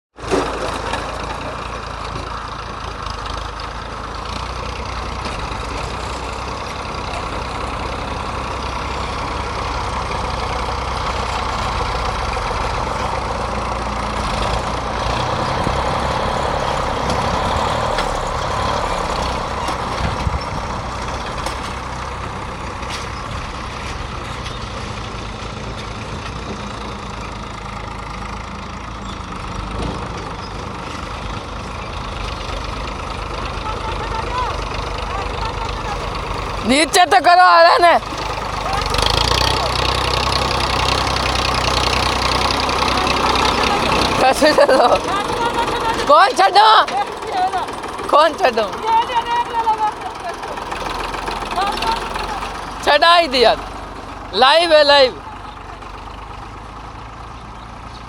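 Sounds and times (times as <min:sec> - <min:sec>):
tractor diesel engine running: 0:00.1 - 0:58.0.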